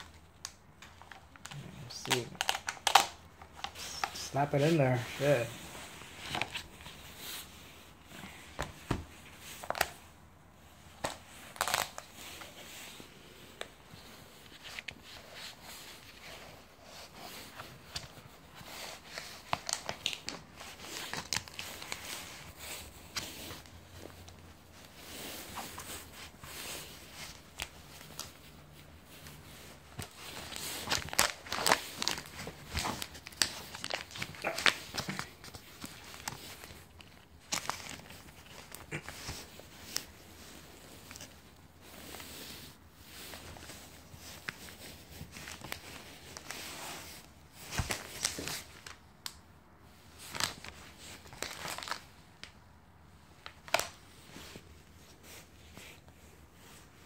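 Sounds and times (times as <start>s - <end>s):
rubbing and crinkling: 0.0s - 57.0s.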